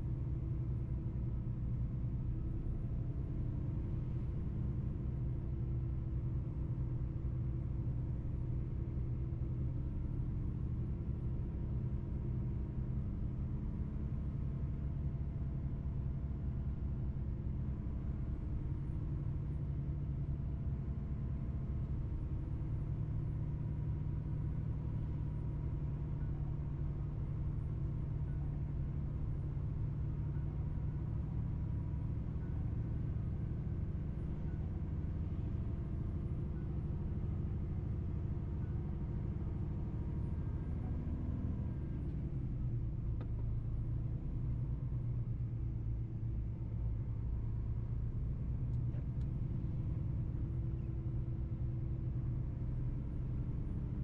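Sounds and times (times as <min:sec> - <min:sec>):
truck diesel engine drone: 0:00.0 - 0:54.0.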